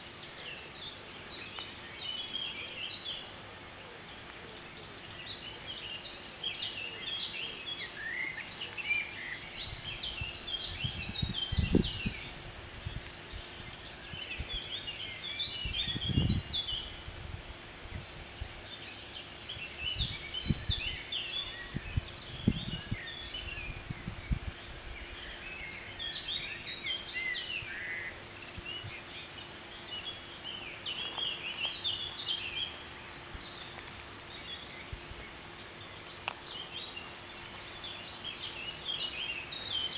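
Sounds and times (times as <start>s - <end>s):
small birds singing: 0.0s - 39.9s.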